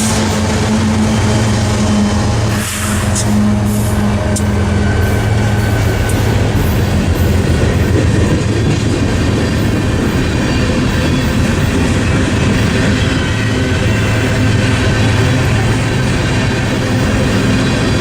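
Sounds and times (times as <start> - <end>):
train rumbling over rails: 0.0 - 18.0.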